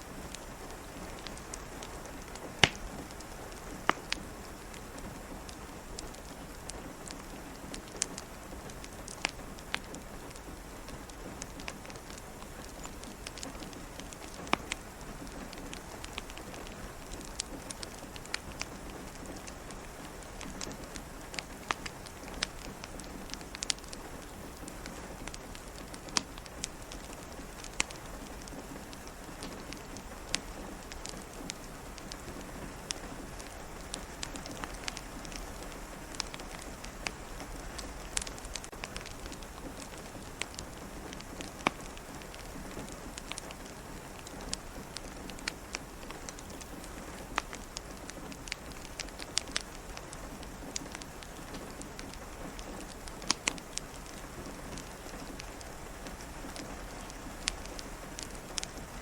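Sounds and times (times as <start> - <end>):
rain hiss and patter: 0.0 - 59.0
wood fire crackling: 0.0 - 59.0.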